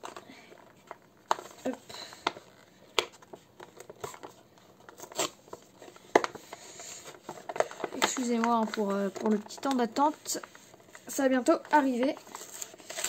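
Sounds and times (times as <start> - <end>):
packaging clicking and crinkling: 0.0 - 13.0.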